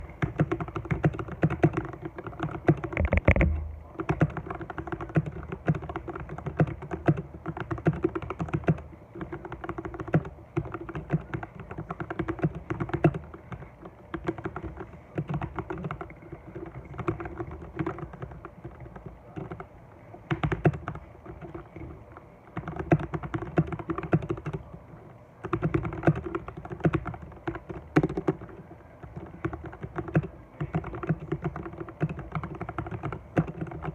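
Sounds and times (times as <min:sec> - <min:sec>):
typing on mechanical keyboard: 0:00.0 - 0:24.8, 0:25.4 - 0:33.9.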